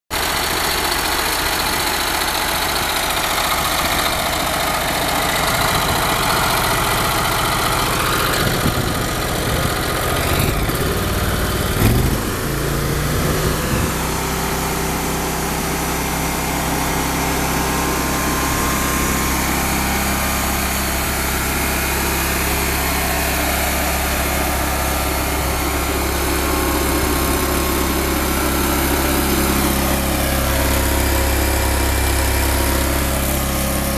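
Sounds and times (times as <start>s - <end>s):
stump grinder engine running: 0.2s - 33.9s.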